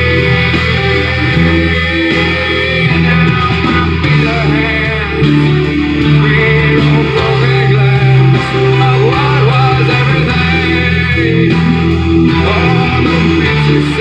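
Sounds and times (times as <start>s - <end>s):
guitar-led rock song with vocals: 0.0s - 14.0s.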